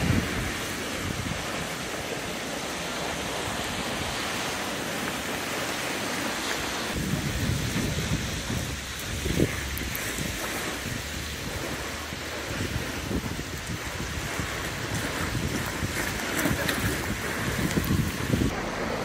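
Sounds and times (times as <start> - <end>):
wind blowing over microphone: 0.0 - 19.0.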